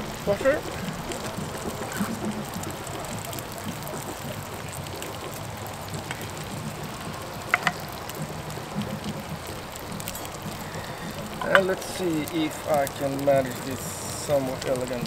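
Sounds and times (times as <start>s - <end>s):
sausages sizzling in a frying pan: 0.0s - 15.0s.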